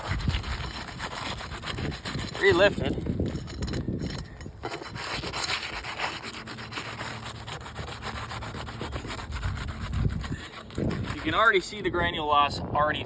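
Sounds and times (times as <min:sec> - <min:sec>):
roof shingles scraping: 0:00.0 - 0:03.4, 0:04.6 - 0:11.7.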